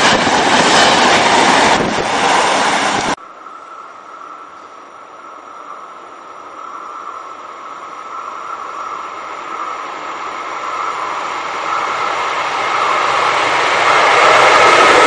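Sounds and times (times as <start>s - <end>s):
passenger train rolling: 0.0s - 15.0s.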